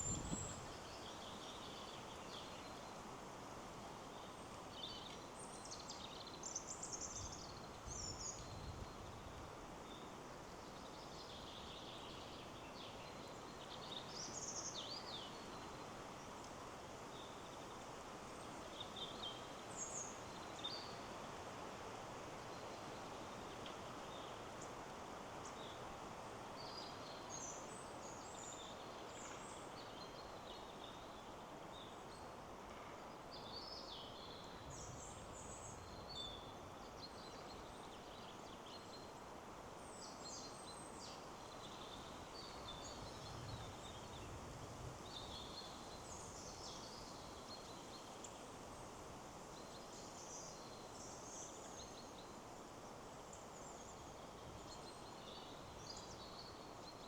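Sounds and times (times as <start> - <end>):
wind in trees: 0.0 - 57.0.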